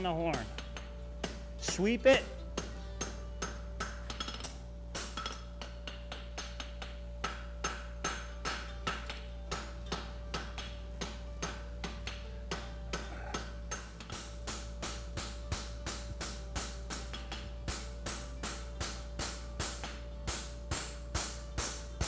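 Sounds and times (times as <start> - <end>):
hammer striking metal on anvil: 0.0 - 22.0.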